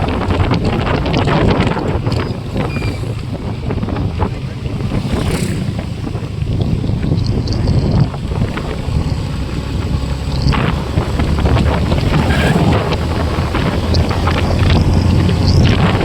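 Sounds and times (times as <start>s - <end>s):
motorcycle engine: 0.0s - 16.0s
road noise: 0.0s - 16.0s
wind buffeting microphone: 0.0s - 16.0s.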